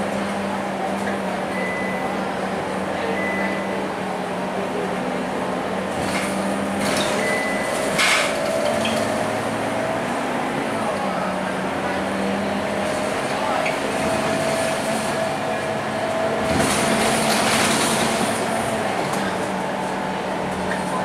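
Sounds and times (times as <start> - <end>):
bus engine hum: 0.0 - 21.0.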